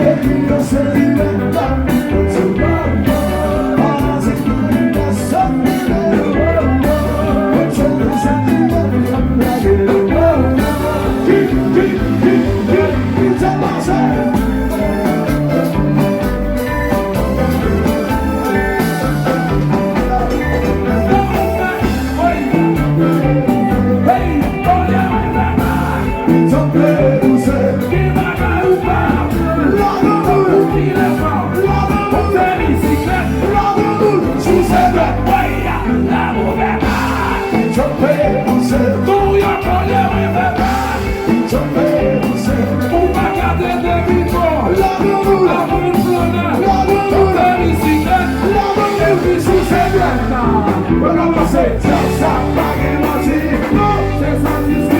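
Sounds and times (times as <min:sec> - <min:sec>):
loud music with steady beat: 0:00.0 - 0:54.9
person singing: 0:00.0 - 0:54.9.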